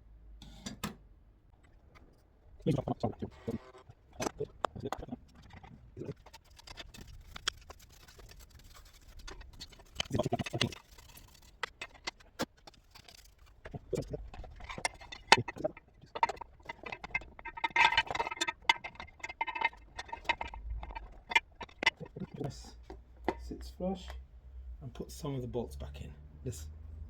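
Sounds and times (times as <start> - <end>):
plastic parts clicking and knocking: 1.6 - 24.2
plastic parts clattering: 1.8 - 23.6.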